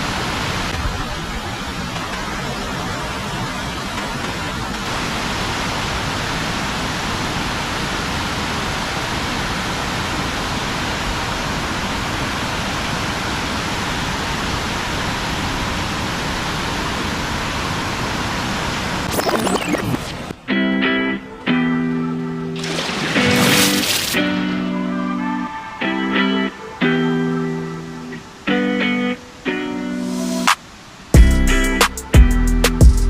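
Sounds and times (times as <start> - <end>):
floodwater rushing through spillway: 0.0 - 20.3, 22.5 - 31.1.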